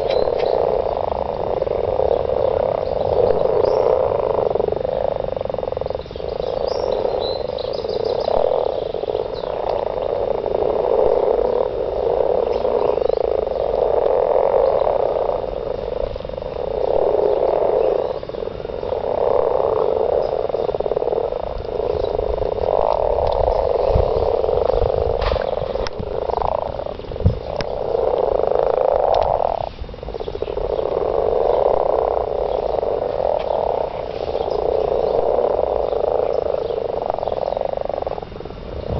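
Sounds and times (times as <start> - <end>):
frogs croaking chorus: 0.0 - 38.9.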